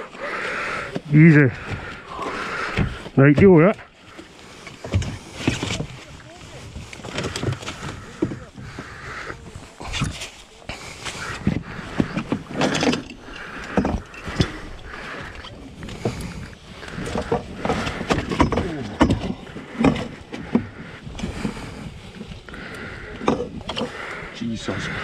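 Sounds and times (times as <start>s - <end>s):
knocks and thuds in boat: 0.9s - 9.1s, 11.2s - 22.3s, 23.1s - 24.0s.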